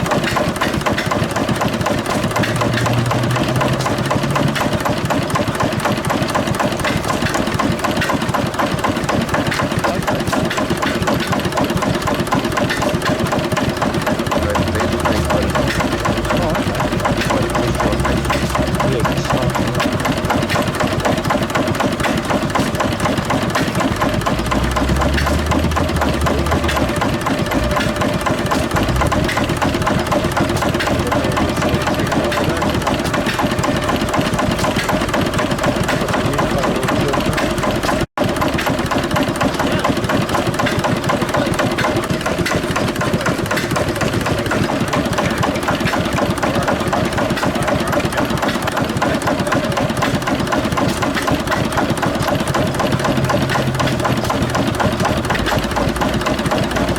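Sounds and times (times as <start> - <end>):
stationary engine running: 0.0 - 56.9.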